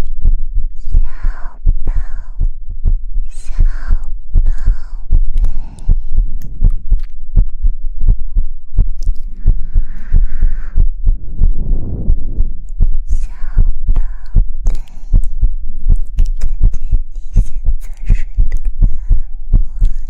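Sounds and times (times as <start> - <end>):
soft low thuds: 0.0 - 20.0
breathy hushing sounds: 0.7 - 7.5, 8.1 - 20.0.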